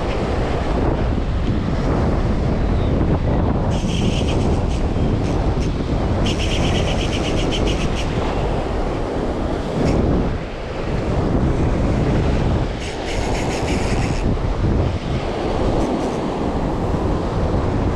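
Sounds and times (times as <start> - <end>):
surf washing on rocks: 0.0 - 17.9
wind buffeting microphone: 0.0 - 17.9.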